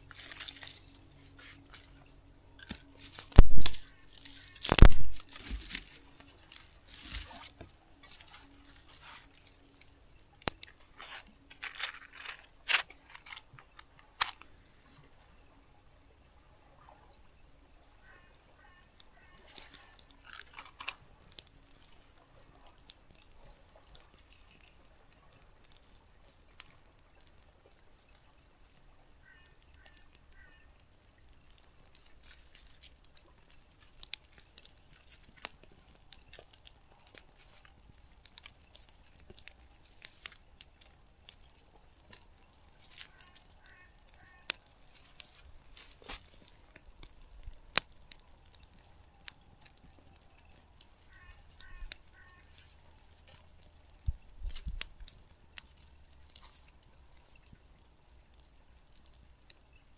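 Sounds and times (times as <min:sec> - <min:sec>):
twigs crackling in a fire: 0:00.0 - 0:16.8, 0:17.4 - 0:59.9.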